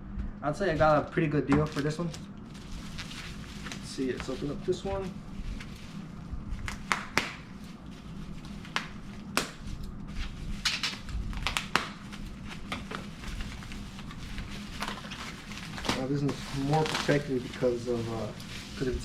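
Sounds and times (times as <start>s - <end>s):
plastic packaging crinkling: 0.8s - 19.0s.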